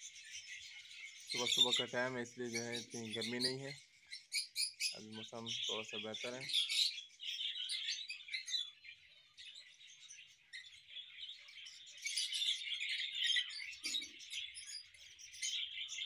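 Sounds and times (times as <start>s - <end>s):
flock of small birds chirping: 0.0s - 16.0s.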